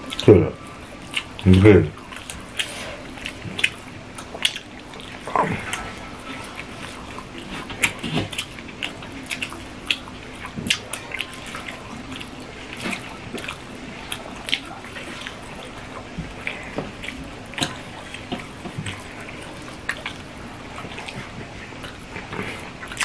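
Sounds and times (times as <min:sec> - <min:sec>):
fingers mixing food on plates: 0:00.0 - 0:23.0
wet chewing and mouth clicks: 0:00.0 - 0:23.0.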